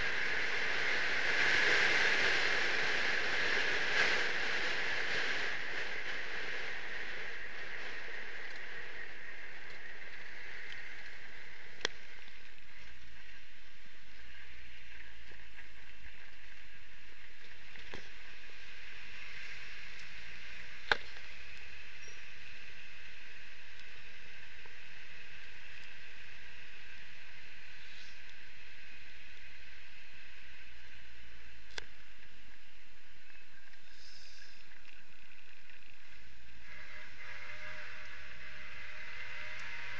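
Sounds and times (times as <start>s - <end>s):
car road and wind noise: 0.0s - 37.2s.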